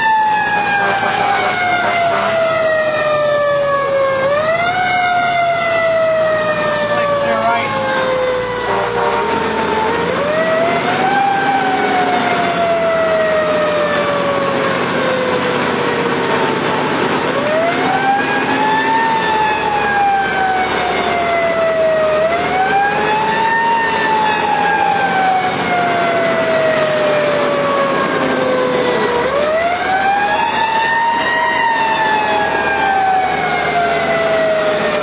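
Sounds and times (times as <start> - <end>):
fire engine siren wailing: 0.0 - 35.0
truck engine and road noise: 0.0 - 35.0.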